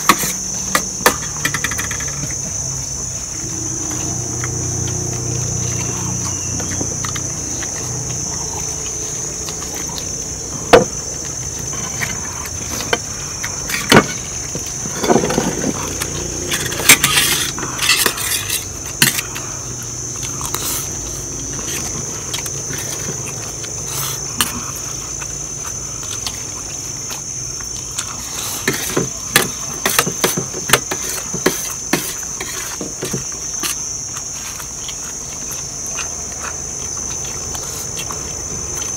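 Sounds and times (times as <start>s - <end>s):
insects shrilling: 0.0s - 38.9s.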